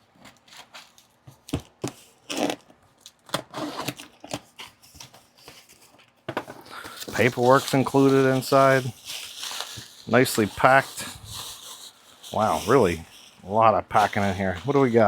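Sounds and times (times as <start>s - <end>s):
cardboard tearing: 0.0s - 6.0s, 6.7s - 15.0s
paper crinkling: 0.0s - 15.0s.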